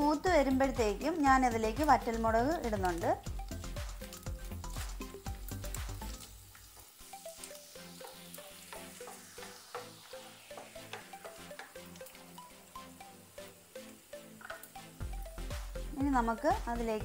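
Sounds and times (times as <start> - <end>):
spices sizzling and crackling in oil: 0.0 - 17.0.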